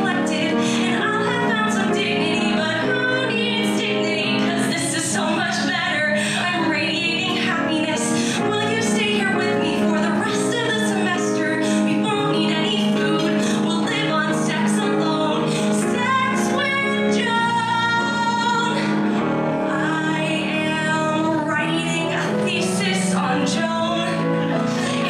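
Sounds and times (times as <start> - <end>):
instrumental accompaniment: 0.0 - 25.0
woman singing into a microphone: 0.0 - 25.0.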